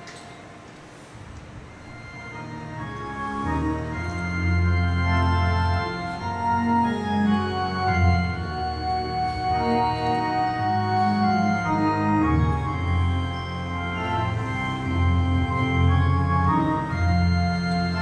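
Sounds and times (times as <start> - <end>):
organ playing hymn chords: 1.6 - 18.0.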